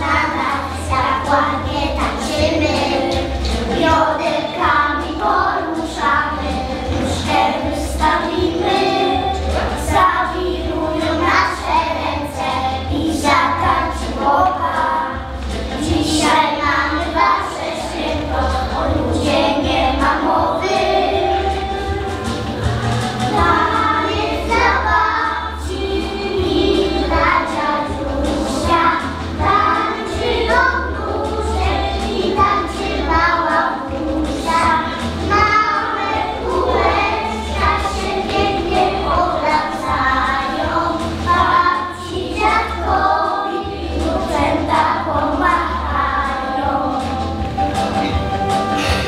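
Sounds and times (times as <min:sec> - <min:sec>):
backing track with bass: 0:00.0 - 0:49.0
children singing: 0:00.0 - 0:49.0.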